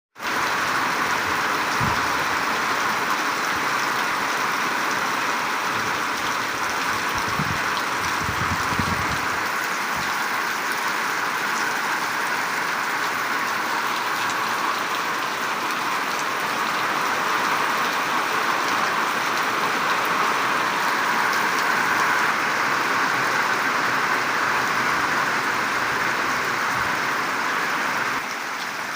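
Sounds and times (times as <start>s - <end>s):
rain falling: 0.2s - 28.9s.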